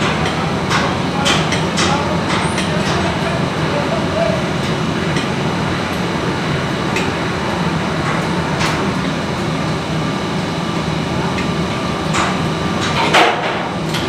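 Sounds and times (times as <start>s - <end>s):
mechanical rumble with low hum: 0.0s - 14.0s.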